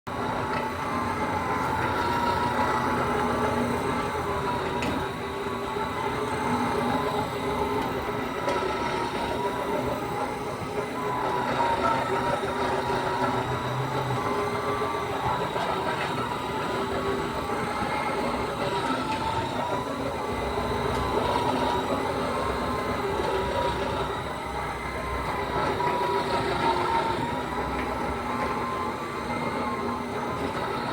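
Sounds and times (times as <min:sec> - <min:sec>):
floor machine motor drone: 0:00.1 - 0:30.9.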